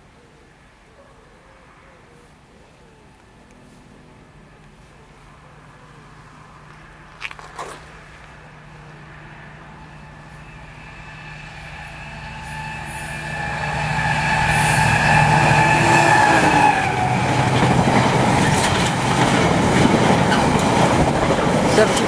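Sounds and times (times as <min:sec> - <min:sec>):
diesel locomotive engine drone: 0:02.8 - 0:22.0.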